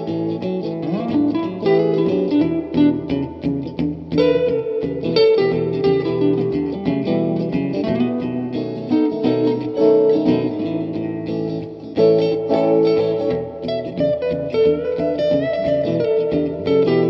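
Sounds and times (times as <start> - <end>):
guitar instrumental music: 0.0 - 17.0.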